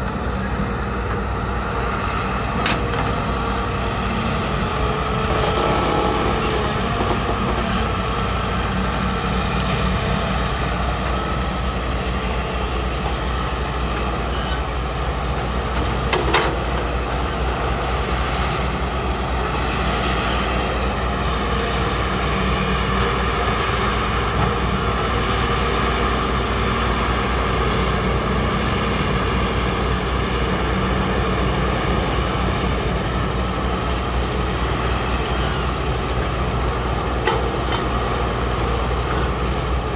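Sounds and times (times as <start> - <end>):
heavy construction machinery running: 0.0 - 39.9.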